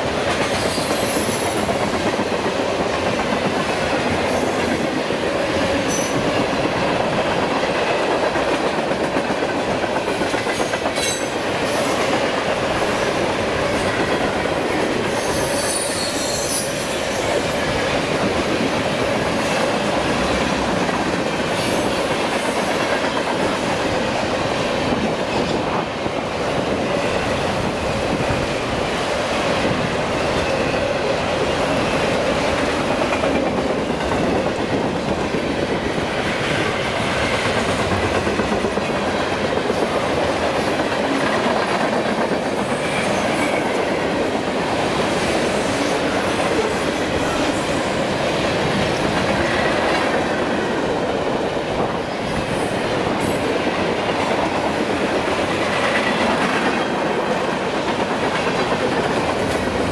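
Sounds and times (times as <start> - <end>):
clickety-clack of wheels: 0.0 - 59.9
train wheels rumbling on track: 0.0 - 59.9.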